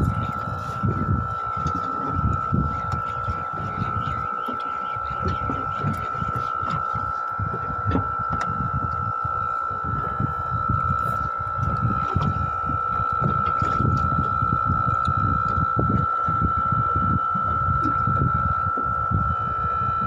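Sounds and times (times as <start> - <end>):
steady high-pitched whine: 0.0 - 20.0
water against small boat: 0.0 - 20.0
wind buffeting: 0.0 - 20.0.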